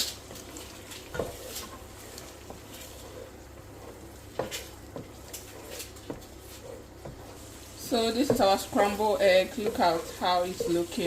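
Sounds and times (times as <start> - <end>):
eggs sizzling in a pan: 0.0 - 11.0
utensil stirring: 0.0 - 11.0.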